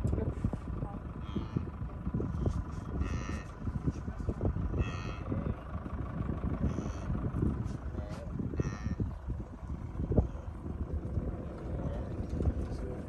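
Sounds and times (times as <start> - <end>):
vehicle rumbling over rough track: 0.0 - 13.0.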